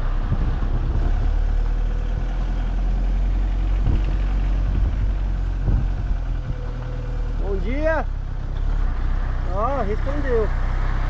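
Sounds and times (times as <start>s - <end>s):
low thumps over rough road: 0.0s - 11.0s
truck engine running: 0.0s - 11.0s.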